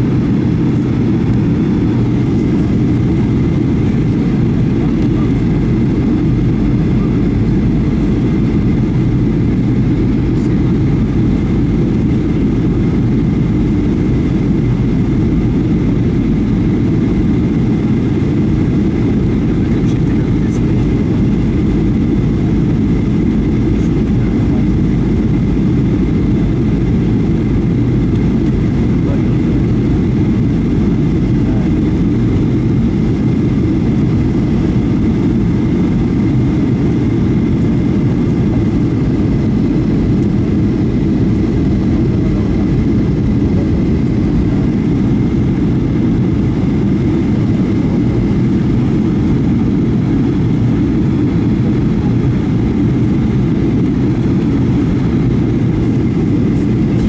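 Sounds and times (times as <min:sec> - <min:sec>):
jet engine cabin rumble: 0:00.0 - 0:57.0.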